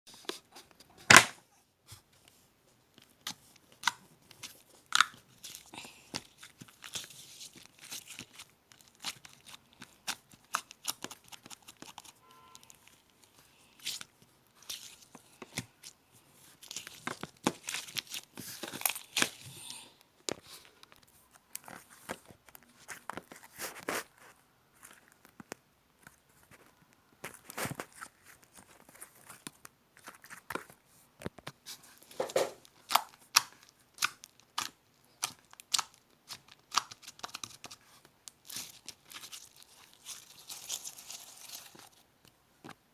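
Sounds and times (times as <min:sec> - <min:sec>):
crunching and crackling: 0:02.9 - 0:42.8.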